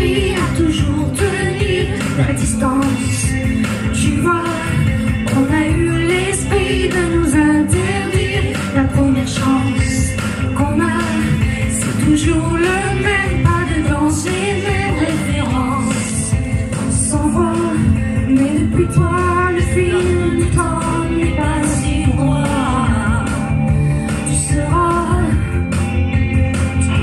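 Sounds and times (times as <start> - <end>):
pop song accompaniment: 0.0 - 27.0.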